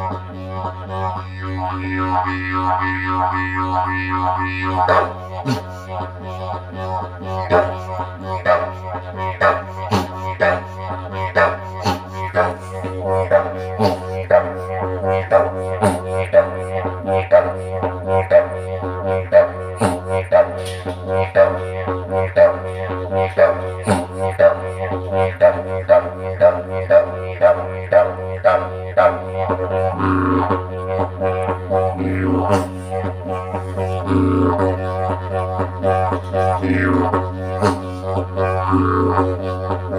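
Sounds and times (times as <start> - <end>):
didgeridoo rhythmic drone: 0.0 - 39.9.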